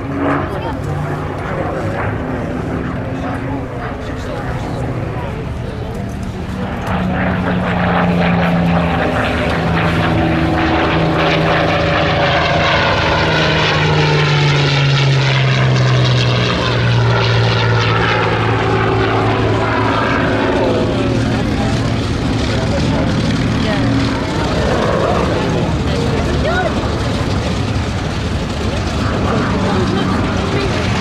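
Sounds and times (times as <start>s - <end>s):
propeller plane flying past: 0.0s - 31.0s.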